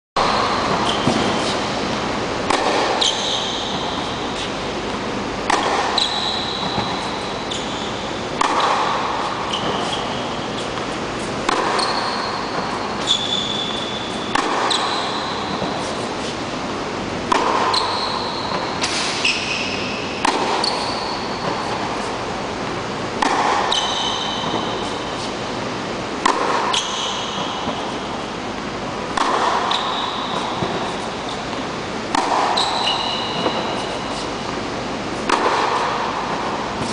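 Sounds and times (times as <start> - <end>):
tennis ball bouncing: 0.2 - 16.4, 17.2 - 36.9
tennis shoes squeaking: 0.2 - 16.4, 17.3 - 22.2, 23.6 - 25.4, 26.7 - 28.0, 29.2 - 36.0
tennis ball hit with racket: 0.2 - 16.6, 17.2 - 36.9.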